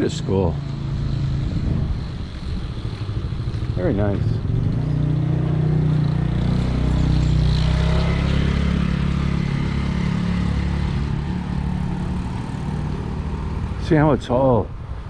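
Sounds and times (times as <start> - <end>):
vehicle engine humming: 0.0 - 14.2.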